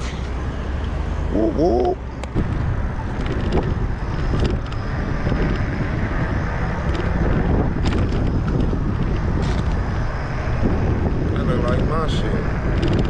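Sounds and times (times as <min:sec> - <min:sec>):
traffic noise: 0:00.0 - 0:13.0
wind buffeting microphone: 0:00.9 - 0:13.0.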